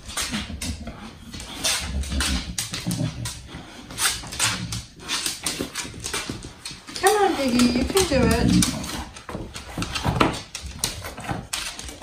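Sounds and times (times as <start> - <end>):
dog sniffing and snuffling: 0.0 - 12.0.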